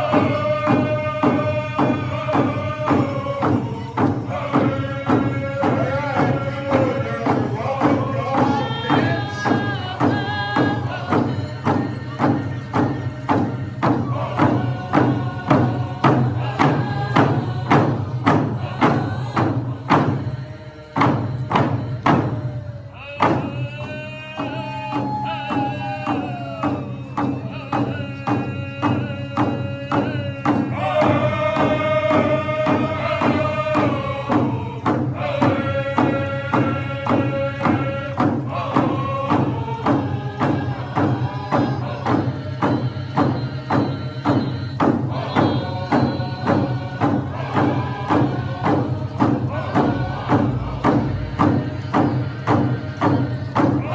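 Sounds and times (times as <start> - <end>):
large drum steady beat: 0.0 - 53.9
people singing in high voices: 0.0 - 53.9.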